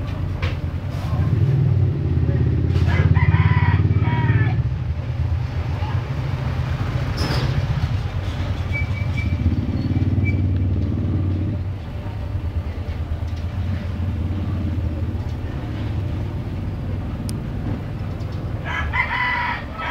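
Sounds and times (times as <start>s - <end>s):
engine low rumble: 0.0s - 19.9s.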